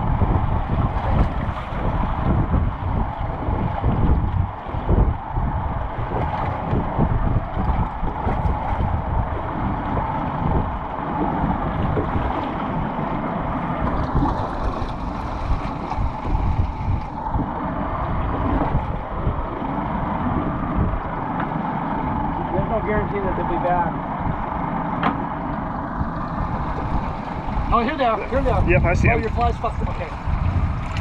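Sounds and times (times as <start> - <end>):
sea and boat noise: 0.0 - 31.0
wind buffeting microphone: 0.0 - 31.0.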